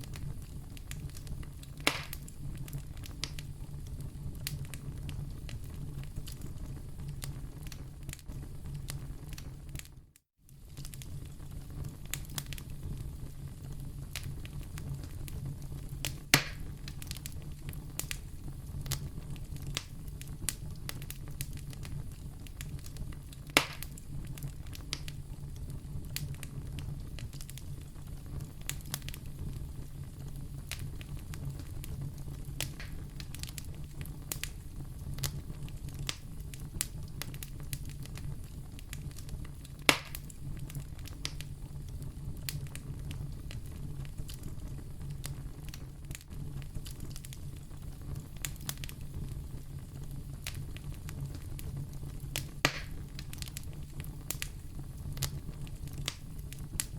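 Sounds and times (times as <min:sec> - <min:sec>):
loud fire pops: 0:00.0 - 0:56.9
wood fire crackling: 0:00.0 - 0:56.9.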